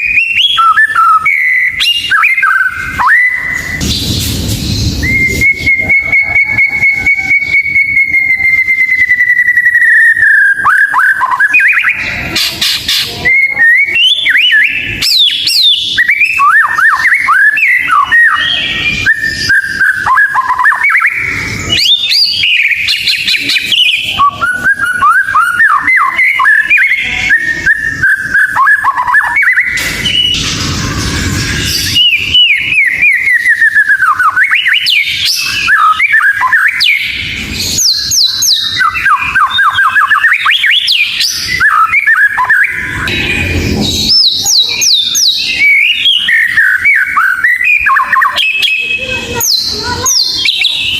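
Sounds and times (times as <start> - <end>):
bird singing whistled phrases: 0.0 - 50.9.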